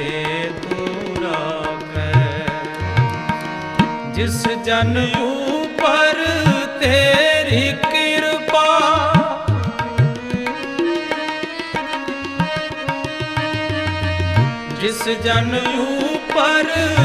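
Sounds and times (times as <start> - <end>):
tabla: 0.0 - 17.0.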